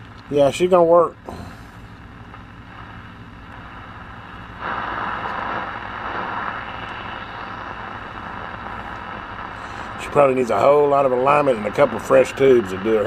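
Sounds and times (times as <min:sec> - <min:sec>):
radio static hissing: 0:00.0 - 0:13.0
steady low hum: 0:00.0 - 0:13.0.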